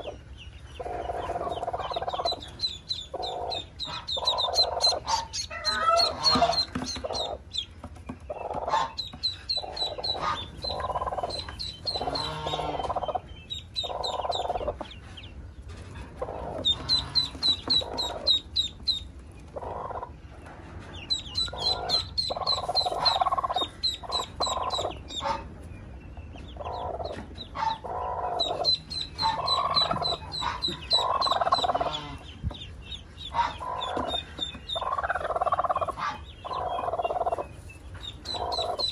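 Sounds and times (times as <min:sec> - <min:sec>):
ducklings peeping: 0:00.0 - 0:38.9
hen clucking: 0:00.0 - 0:38.9.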